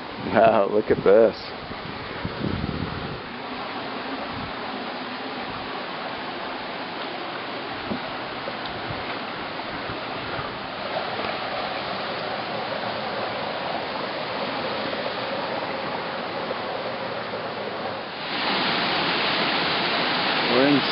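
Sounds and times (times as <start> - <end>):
stream rushing over boulders: 2.0 - 20.9.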